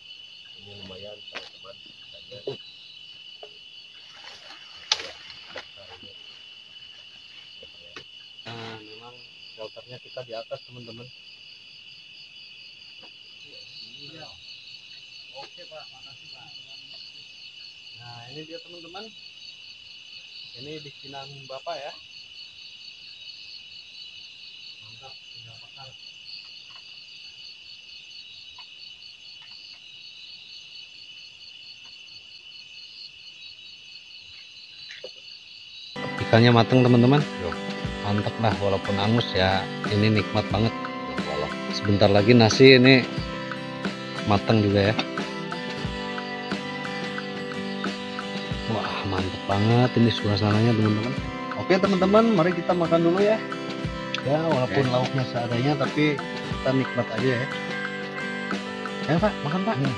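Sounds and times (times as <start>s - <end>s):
crickets chirping: 0.0s - 59.9s
pulsing insect trill: 0.0s - 59.9s.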